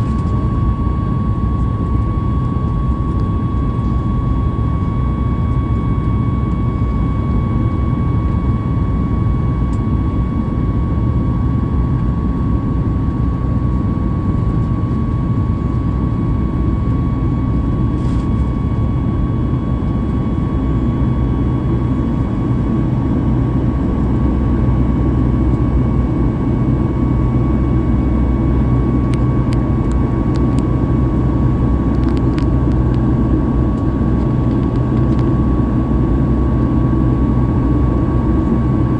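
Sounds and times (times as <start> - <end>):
jet engine rumble and whine: 0.0 - 38.9.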